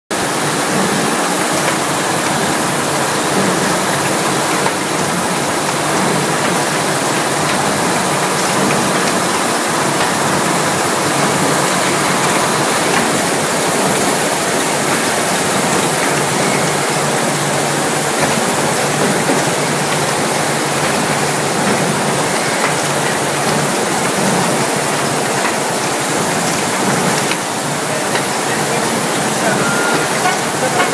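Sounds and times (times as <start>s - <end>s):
workshop machinery hiss: 0.2s - 30.9s.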